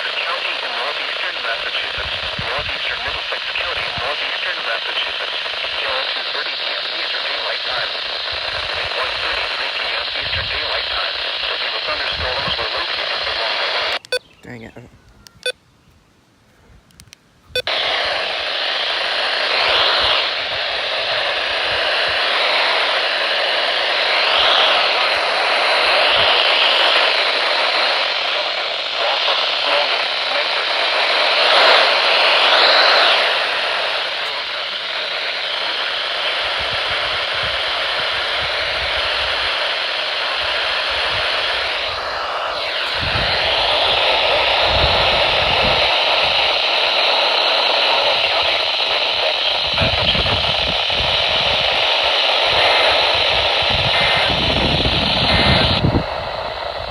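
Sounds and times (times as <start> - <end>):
radio static hiss: 0.0 - 15.6, 16.5 - 56.9.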